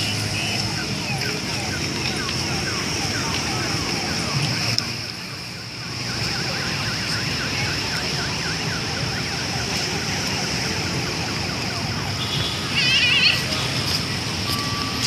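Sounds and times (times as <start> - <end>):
distant siren yelping: 0.0 - 15.0
street traffic: 0.0 - 15.0.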